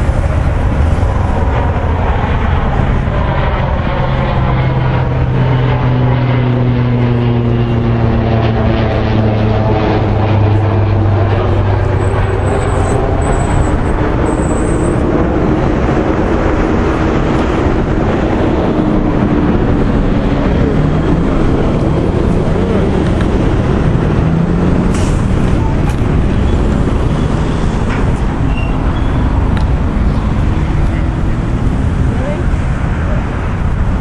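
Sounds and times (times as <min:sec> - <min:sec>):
heavy vehicle engine rumbling: 0:00.0 - 0:34.0.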